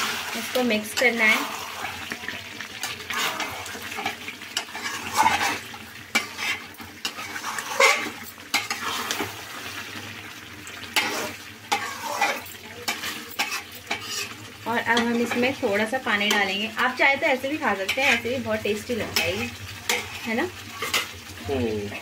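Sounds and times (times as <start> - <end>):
metal spatula scraping a pan: 0.0 - 9.6, 10.8 - 21.2
frying sizzle: 0.0 - 22.0.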